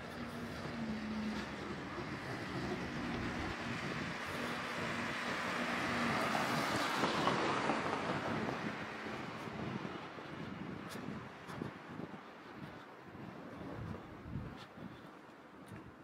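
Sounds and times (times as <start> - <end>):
road vehicle passing: 0.0 - 12.8.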